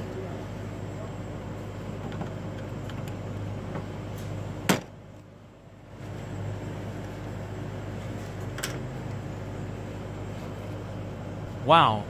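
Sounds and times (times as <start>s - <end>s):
low machine hum with tones: 0.0s - 12.0s.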